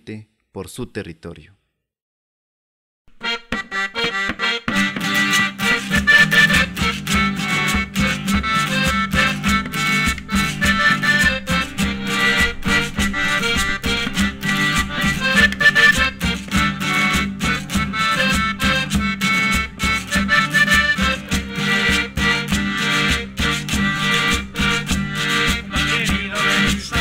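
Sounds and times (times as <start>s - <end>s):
traditional band playing instrumental: 3.2s - 27.0s.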